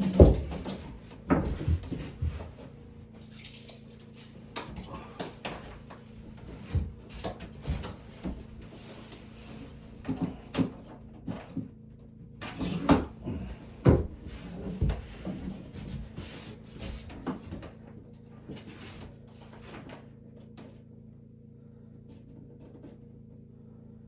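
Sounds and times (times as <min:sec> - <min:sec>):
knocks and clunks of woodwork: 0:00.0 - 0:03.4, 0:04.3 - 0:20.7
steady low hum: 0:00.0 - 0:24.0.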